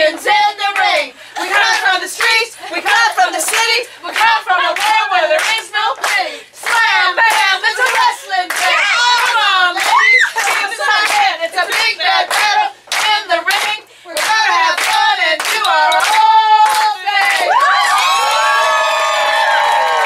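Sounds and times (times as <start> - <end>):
women singing: 0.0 - 18.4
rhythmic hand-clapping: 0.0 - 20.0.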